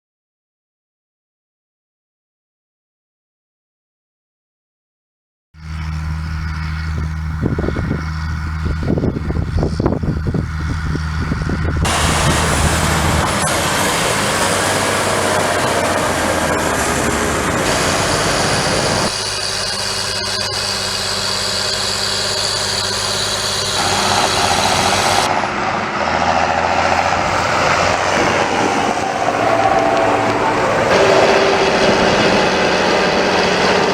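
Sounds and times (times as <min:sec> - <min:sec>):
tractor diesel engine running: 0:05.6 - 0:33.9.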